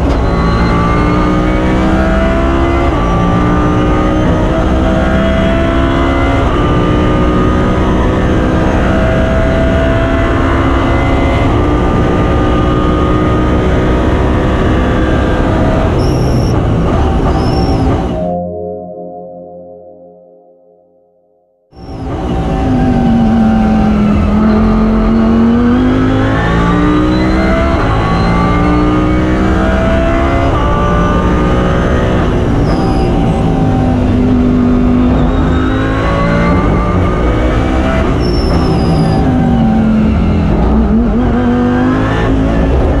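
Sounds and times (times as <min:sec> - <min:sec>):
race car engine revving: 0:00.0 - 0:18.2, 0:21.8 - 0:43.0.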